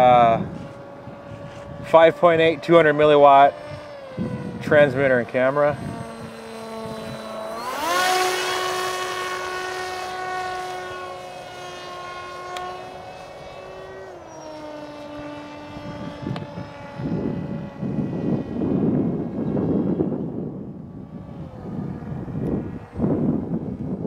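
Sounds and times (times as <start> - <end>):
electric motor and propeller whine: 0.0 - 24.0
wind buffeting microphone: 0.0 - 24.0.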